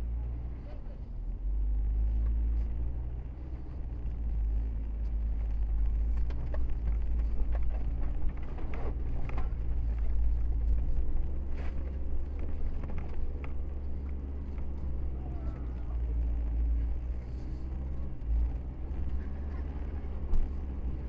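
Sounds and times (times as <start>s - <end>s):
car engine rumble from cabin: 0.0s - 21.0s.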